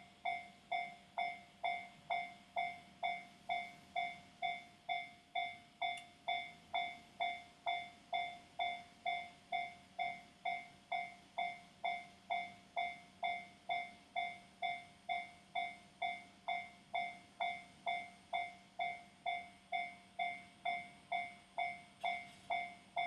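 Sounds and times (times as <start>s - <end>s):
level-crossing alarm bell: 0.0s - 23.0s.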